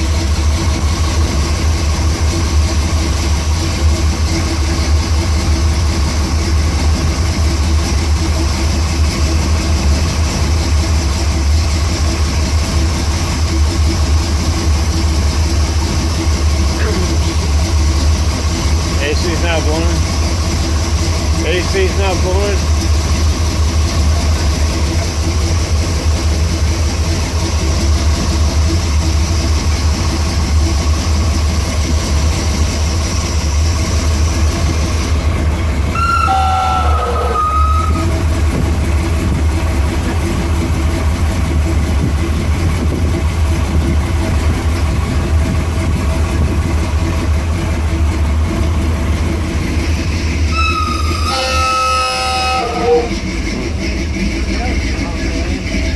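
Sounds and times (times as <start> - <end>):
truck engine drone: 0.0 - 55.9.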